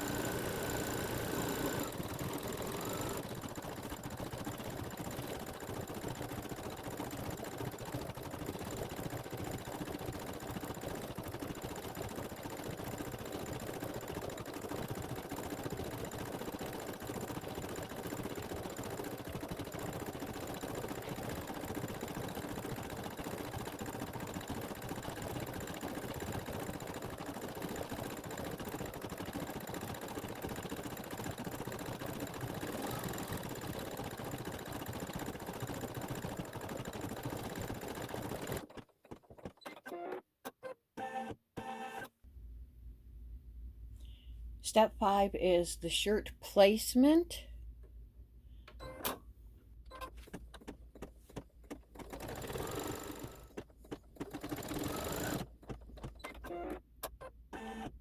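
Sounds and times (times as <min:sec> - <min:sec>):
embroidery machine stitching: 0:00.0 - 0:42.1, 0:49.9 - 0:58.0.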